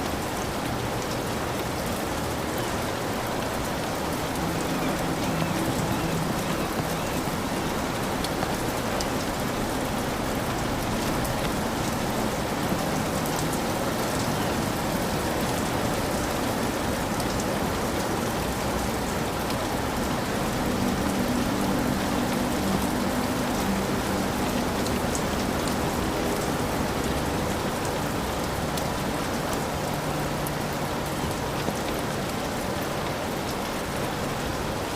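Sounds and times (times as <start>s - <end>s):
heavy rain on a roof: 0.0s - 34.9s.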